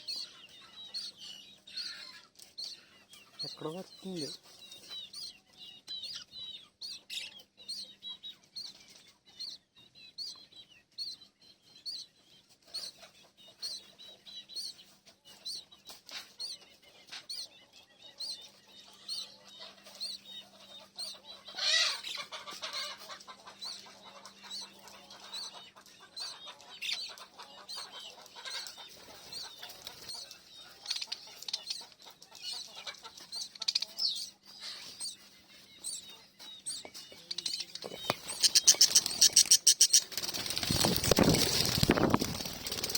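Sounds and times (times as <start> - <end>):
parrots chirping: 0.0 - 14.8, 16.4 - 42.9.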